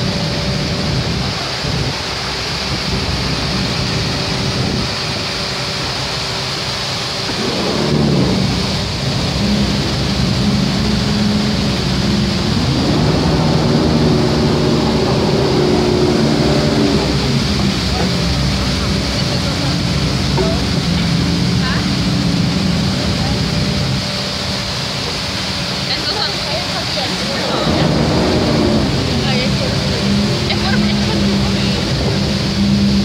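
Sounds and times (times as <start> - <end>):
boat engine humming: 0.0 - 33.0
waterfall rushing: 0.0 - 33.0.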